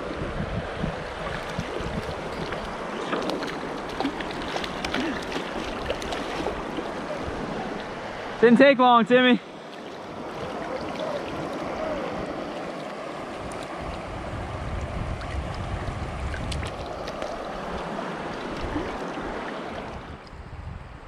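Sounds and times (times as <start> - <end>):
creek water flowing: 0.0 - 20.2.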